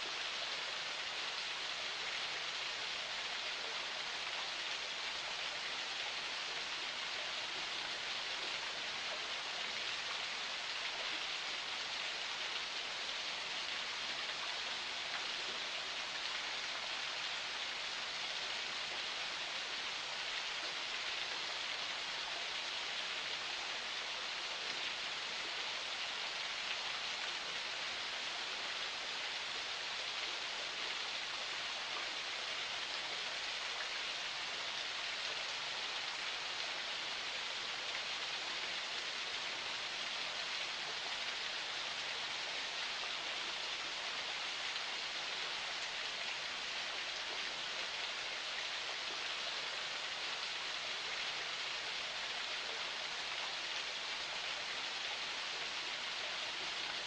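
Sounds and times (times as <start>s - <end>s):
spring water flowing and splashing: 0.0s - 57.0s.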